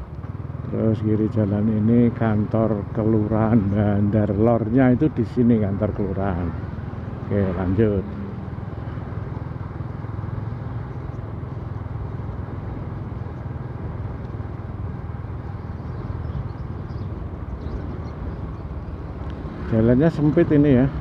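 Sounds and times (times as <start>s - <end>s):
road noise: 0.0s - 21.0s
vehicle engine droning: 0.0s - 21.0s.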